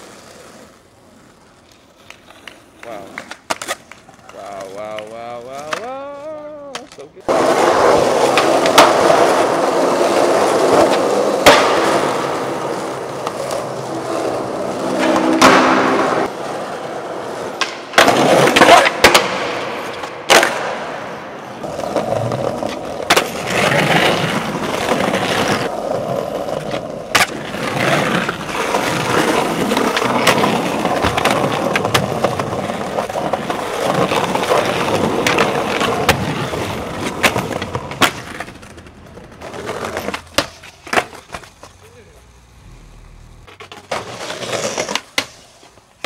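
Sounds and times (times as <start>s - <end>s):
skateboard popping and landing clacks: 0.0s - 42.1s, 43.5s - 46.0s
skateboard wheels rolling on concrete: 0.0s - 46.0s.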